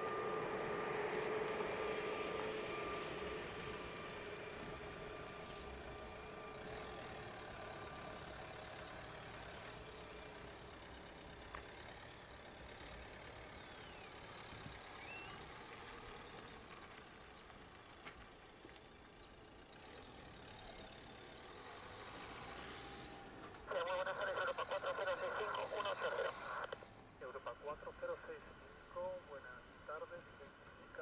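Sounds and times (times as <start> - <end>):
jet engines whining at taxi power: 0.0 - 16.8, 19.8 - 31.0.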